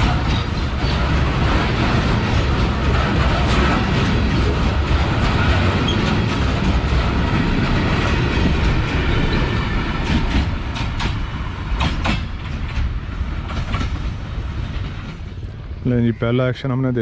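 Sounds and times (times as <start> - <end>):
wheels clacking over rail joints: 0.0 - 15.4
freight train wagons rumbling: 0.0 - 17.0.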